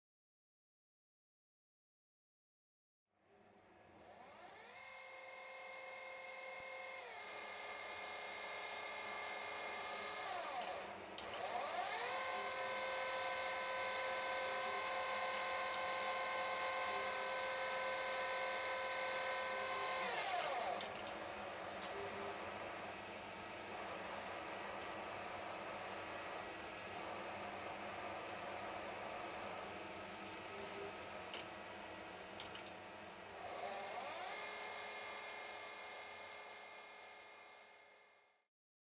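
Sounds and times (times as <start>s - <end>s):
lathe spindle whining: 4.2s - 32.7s, 33.4s - 37.6s.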